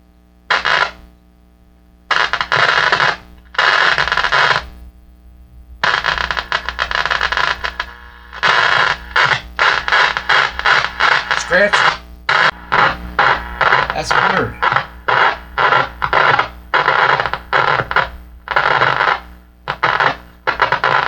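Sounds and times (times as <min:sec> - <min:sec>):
radio speaker hum: 0:00.0 - 0:21.0
scratchy radio static bursts: 0:00.5 - 0:01.0, 0:02.1 - 0:05.0, 0:05.7 - 0:21.0.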